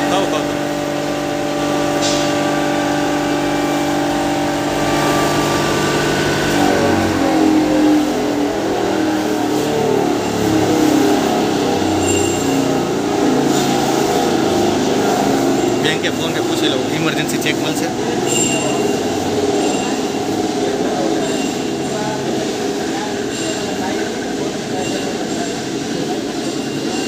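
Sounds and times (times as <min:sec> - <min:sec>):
hammer mill machine hum: 0:00.0 - 0:27.0.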